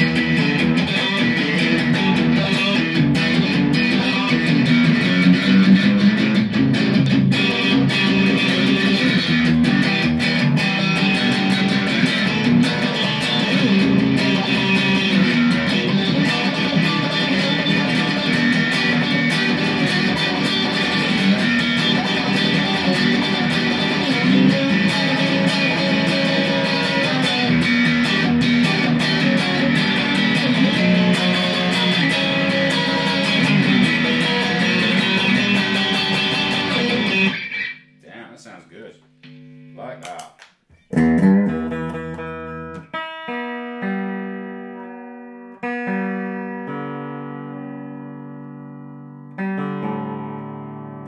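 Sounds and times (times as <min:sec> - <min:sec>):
overdriven electric guitar: 0:00.0 - 0:38.1, 0:39.2 - 0:51.0.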